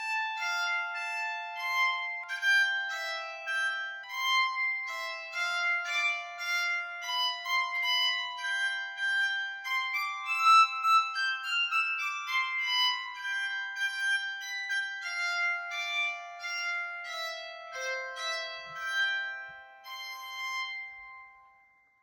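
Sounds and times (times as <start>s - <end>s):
bowed psaltery melody: 0.0s - 21.7s.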